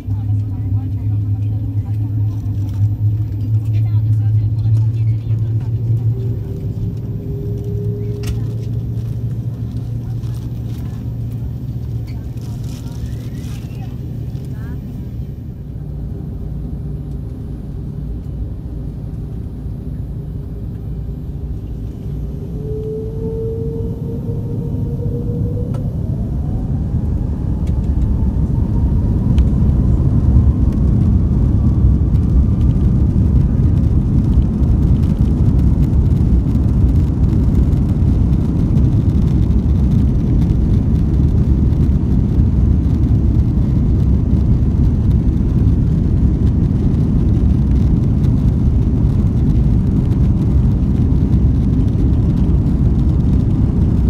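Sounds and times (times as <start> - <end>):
jet engine whine rising: 0.0 - 54.0
jet engines low rumble: 0.0 - 54.0.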